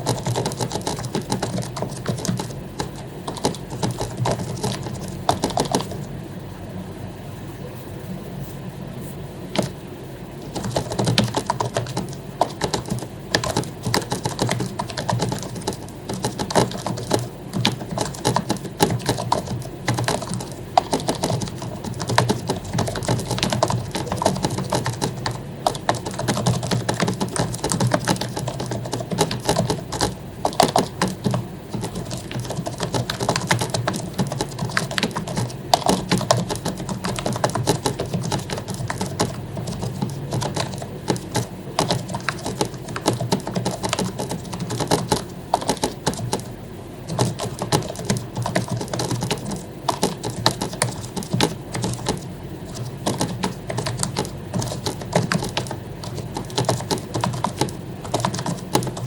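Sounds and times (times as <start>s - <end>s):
keyboard keys clicking: 0.0s - 6.1s, 9.5s - 9.8s, 10.4s - 59.0s.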